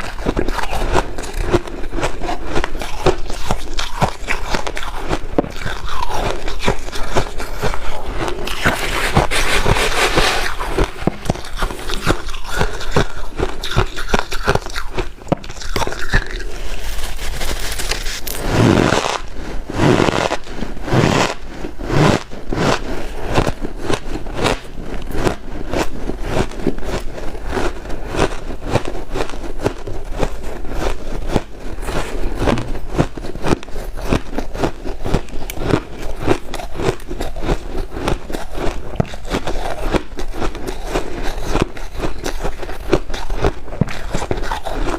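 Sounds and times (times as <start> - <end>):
ice being chewed crunching: 0.0 - 44.9.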